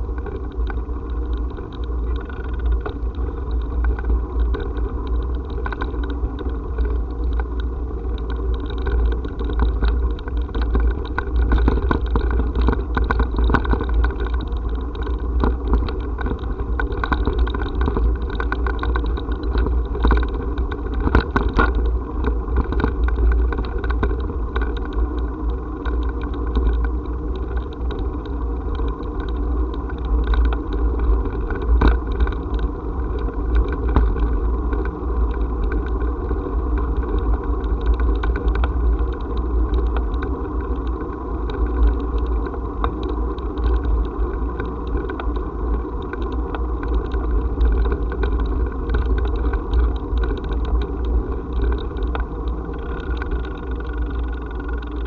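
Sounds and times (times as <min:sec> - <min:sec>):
camera rattling: 0:00.0 - 0:55.0
wheels rolling over brick paving: 0:00.0 - 0:55.0.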